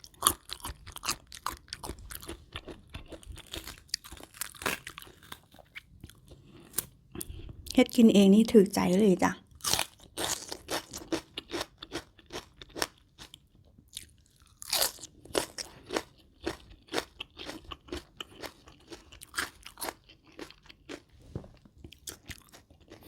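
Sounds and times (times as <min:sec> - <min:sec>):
chewing crunchy food: 0:00.0 - 0:07.8, 0:09.4 - 0:23.0.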